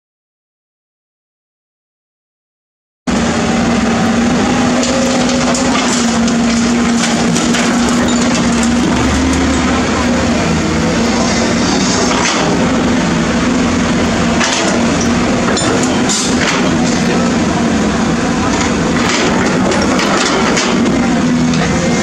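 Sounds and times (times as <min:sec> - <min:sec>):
excavator diesel engine running: 0:03.1 - 0:22.0.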